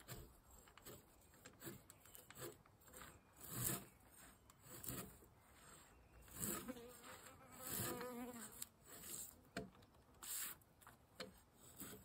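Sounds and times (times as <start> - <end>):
short scraping strokes: 0.0 - 9.4, 10.2 - 10.7.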